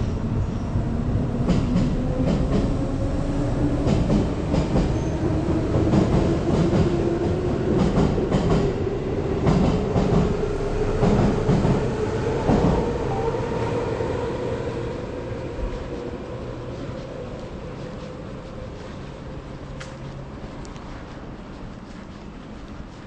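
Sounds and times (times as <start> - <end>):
electric train rumbling overhead: 0.0 - 23.0.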